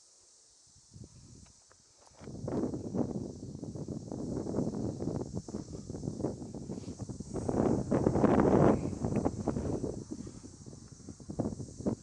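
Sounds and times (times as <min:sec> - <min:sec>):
wind buffeting microphone: 0:02.2 - 0:12.0.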